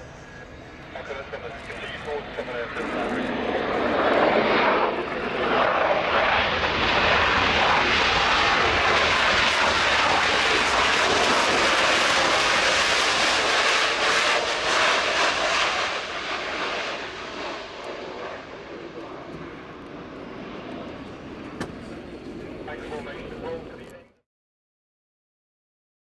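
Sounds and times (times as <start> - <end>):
jet engines roaring: 0.0 - 24.2.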